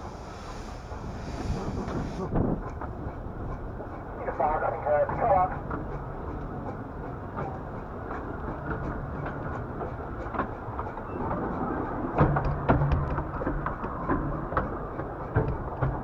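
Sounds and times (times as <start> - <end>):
miniature train rumbling: 0.0 - 16.0
wheels clicking over rail joints: 0.0 - 16.0.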